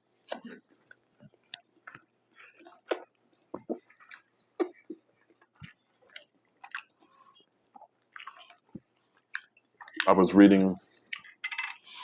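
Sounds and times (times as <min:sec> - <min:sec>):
crunchy wet chewing: 0:00.2 - 0:10.3, 0:10.9 - 0:12.0.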